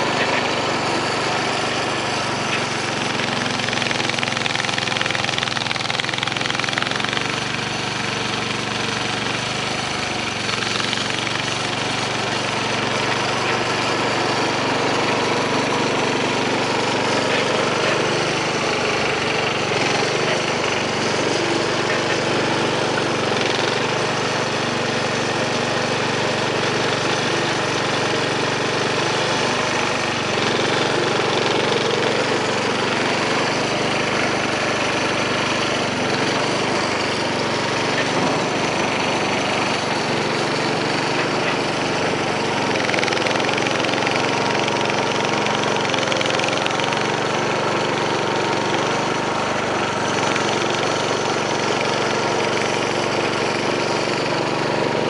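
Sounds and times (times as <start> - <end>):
garden tractor engine running: 0.0 - 55.0.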